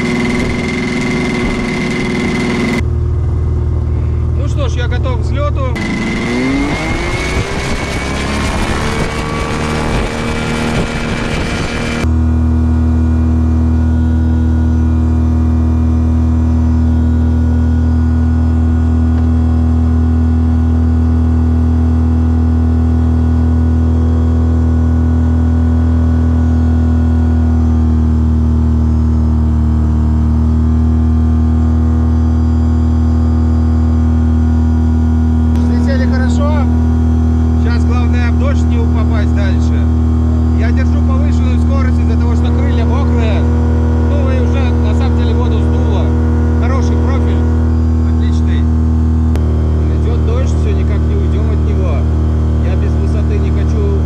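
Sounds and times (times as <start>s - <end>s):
propeller engine running at full power: 0.0s - 54.0s.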